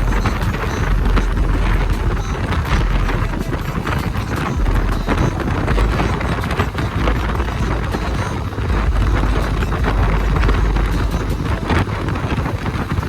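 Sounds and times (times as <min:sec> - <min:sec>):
motorcycle engine and road noise: 0:00.0 - 0:13.0
wind rushing over microphone: 0:00.0 - 0:13.0.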